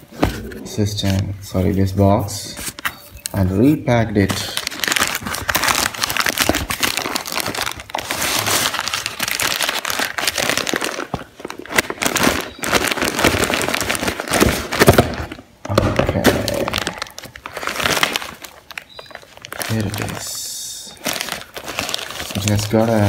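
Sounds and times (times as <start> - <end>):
plastic bag crinkling: 4.1 - 23.0.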